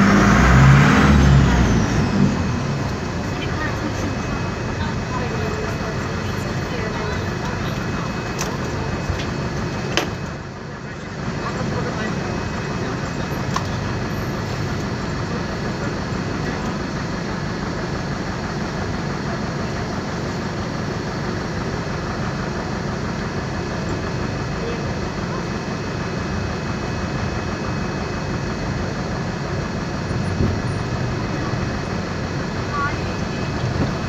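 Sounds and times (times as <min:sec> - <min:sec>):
bus diesel engine drone: 0:00.0 - 0:34.0.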